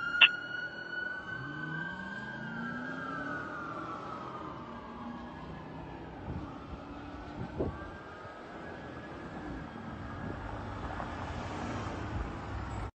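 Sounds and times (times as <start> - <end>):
fire engine siren: 0.0 - 12.7.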